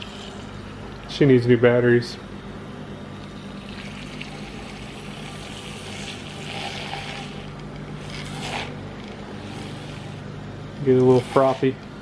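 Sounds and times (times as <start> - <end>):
milk frother motor humming: 0.0 - 1.1, 2.9 - 12.0.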